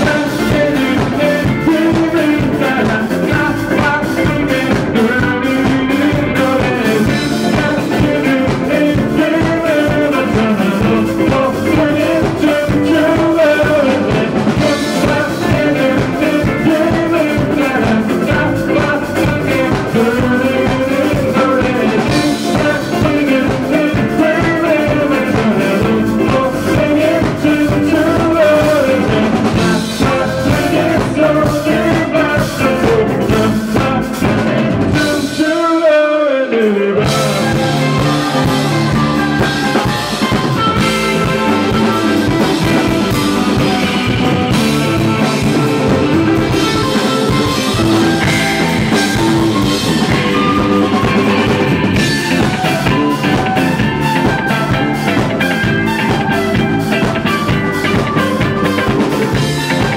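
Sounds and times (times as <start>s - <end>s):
live rock band: 0.0s - 59.9s
man singing: 0.0s - 59.9s.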